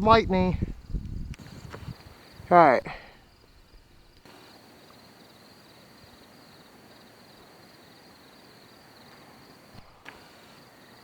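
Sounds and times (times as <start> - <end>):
low hiss: 0.0 - 11.0
night insects trilling: 0.0 - 11.0.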